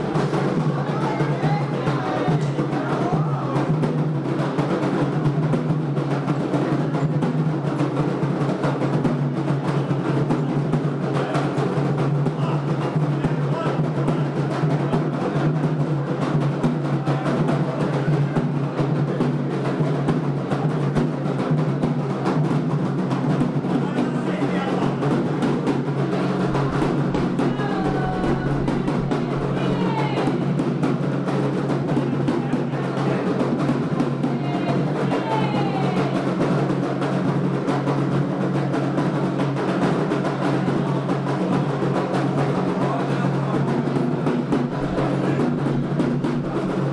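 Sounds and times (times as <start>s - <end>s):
hand drums rhythm: 0.0s - 46.9s.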